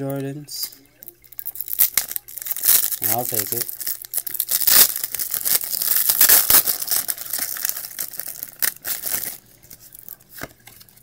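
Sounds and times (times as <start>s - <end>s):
wrapper tearing and crinkling: 1.3s - 10.5s.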